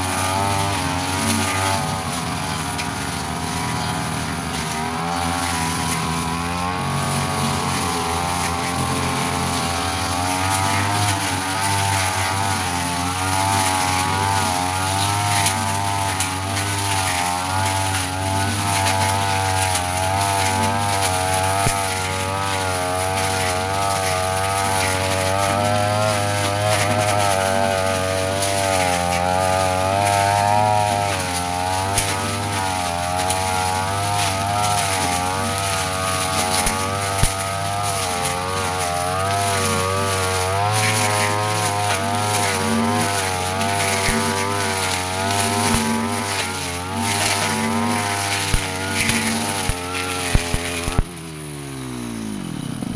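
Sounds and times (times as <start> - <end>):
brush cutter engine running: 0.0 - 52.9.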